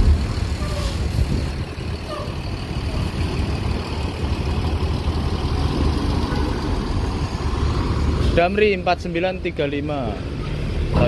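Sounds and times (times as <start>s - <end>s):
diesel coach engine rolling past: 0.0s - 11.0s.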